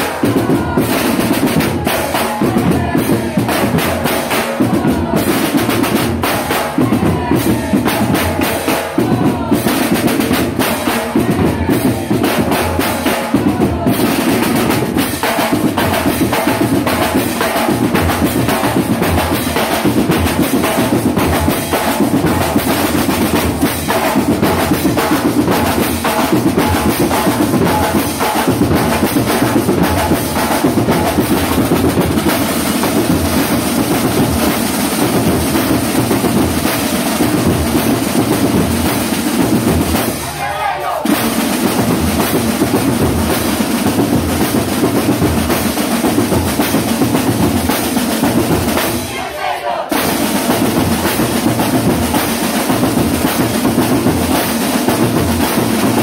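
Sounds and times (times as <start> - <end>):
snare and bass drums: 0.0 - 56.0.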